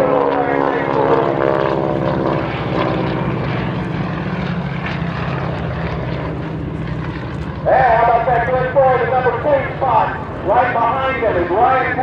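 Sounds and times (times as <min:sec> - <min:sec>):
propeller aircraft engines overhead: 0:00.0 - 0:12.0.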